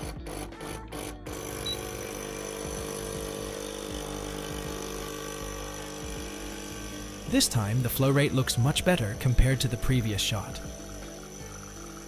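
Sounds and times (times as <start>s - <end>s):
espresso machine pump humming: 0.0s - 12.0s.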